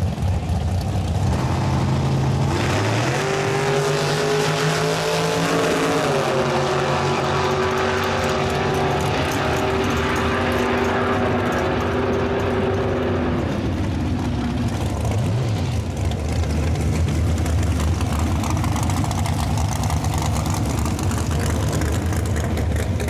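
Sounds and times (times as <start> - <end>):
drag racing engines howling: 0.0 - 23.0.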